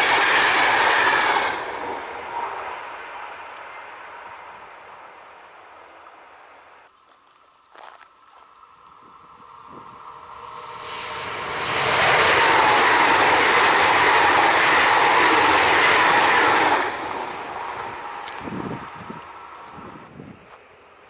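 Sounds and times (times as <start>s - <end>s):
electric train passing at speed: 0.0s - 6.9s, 8.4s - 21.0s.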